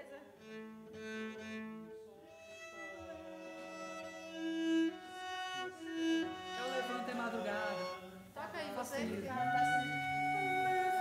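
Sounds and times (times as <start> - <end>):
cello bowed long notes: 0.0 - 11.0.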